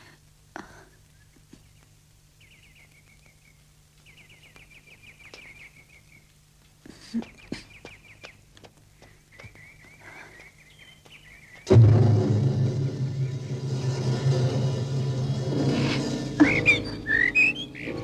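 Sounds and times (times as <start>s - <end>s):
birds chirping trills: 0.8s - 11.8s, 12.6s - 18.0s.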